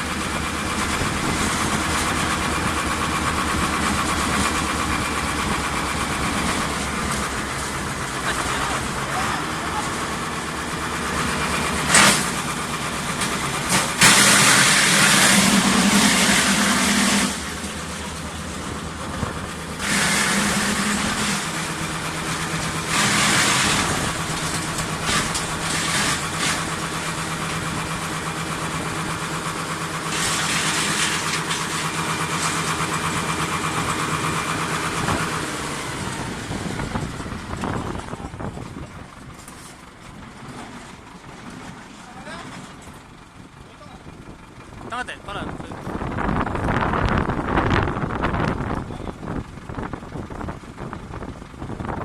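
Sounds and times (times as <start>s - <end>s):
wood chipper running: 0.0s - 52.0s.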